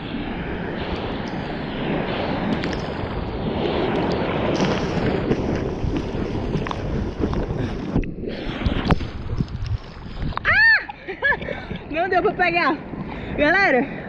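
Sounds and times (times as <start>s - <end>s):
sea water rushing and splashing: 0.0s - 14.0s
wind buffeting microphone: 0.0s - 14.0s.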